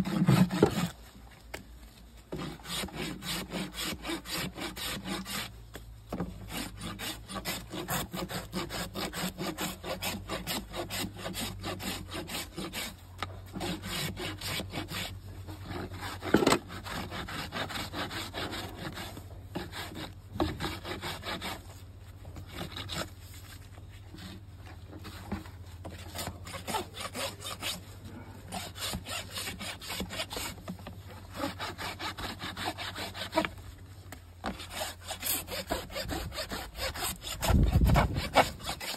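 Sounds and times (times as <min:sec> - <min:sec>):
hoof rasp scraping: 0:00.0 - 0:38.9.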